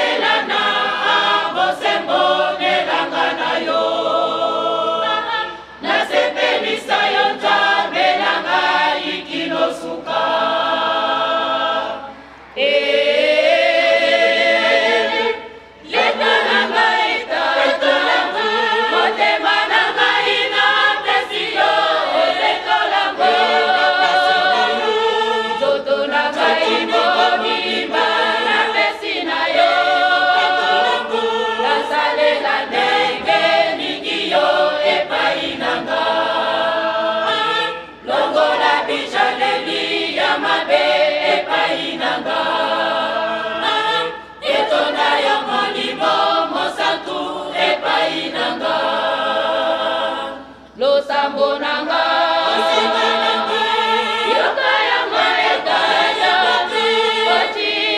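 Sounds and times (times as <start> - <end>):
women's choir singing: 0.0 - 57.9.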